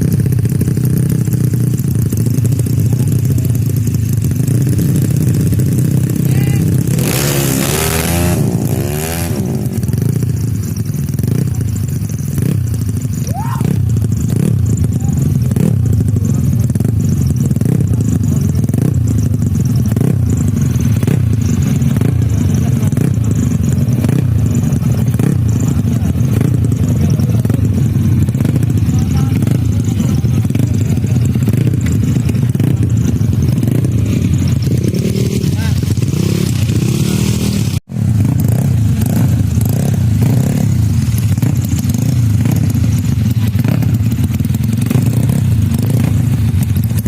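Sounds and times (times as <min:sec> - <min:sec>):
motorbike engines revving: 0:00.0 - 0:47.0
scooter revving and passing: 0:04.2 - 0:10.3, 0:12.4 - 0:47.0.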